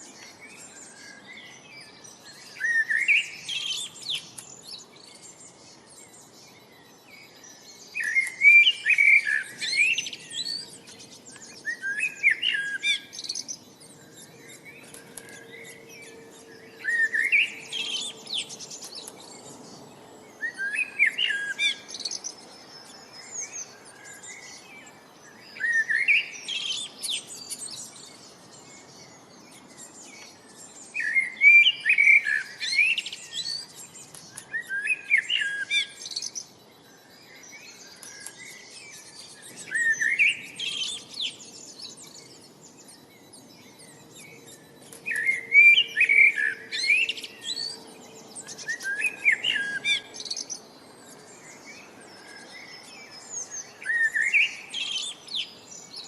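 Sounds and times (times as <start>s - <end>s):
bird chirps and trills: 0.0s - 56.0s.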